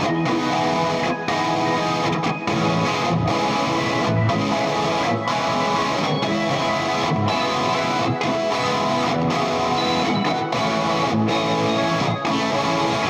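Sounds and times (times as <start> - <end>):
soft rock guitar music: 0.0 - 13.0.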